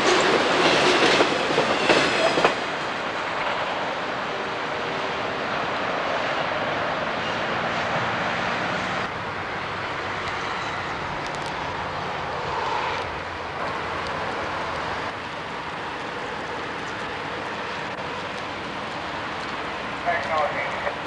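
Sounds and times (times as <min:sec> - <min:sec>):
freight train wheels rumbling: 0:00.0 - 0:21.0
softer rumble of trains in yard: 0:00.0 - 0:21.0.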